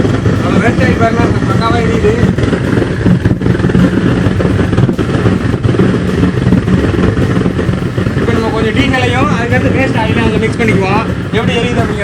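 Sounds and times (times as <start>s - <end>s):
oil burner flame roaring: 0.0s - 12.0s.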